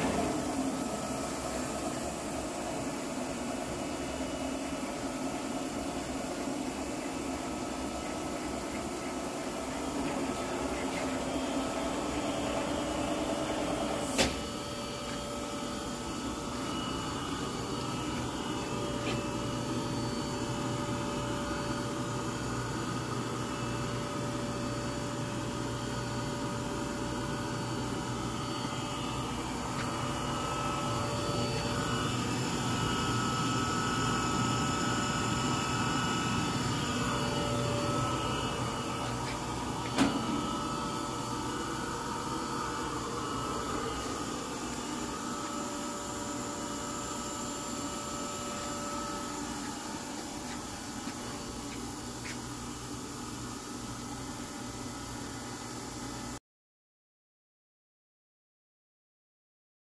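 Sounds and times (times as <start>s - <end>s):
machine motor and pump hum: 0.0s - 56.4s.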